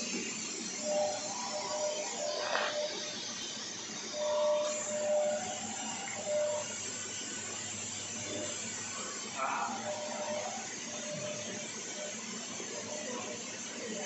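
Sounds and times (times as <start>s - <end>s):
machine shop hum and hiss: 0.0s - 14.0s
thin high whine: 0.0s - 14.0s.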